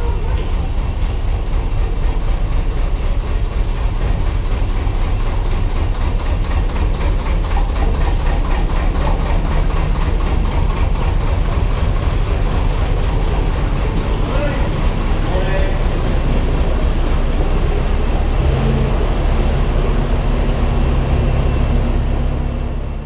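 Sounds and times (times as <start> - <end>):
boat engine running in tunnel: 0.0 - 23.0.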